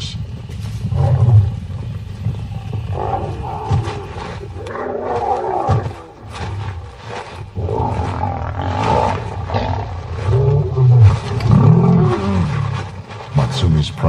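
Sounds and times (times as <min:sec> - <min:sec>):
lions growling and snarling: 0:00.7 - 0:14.0.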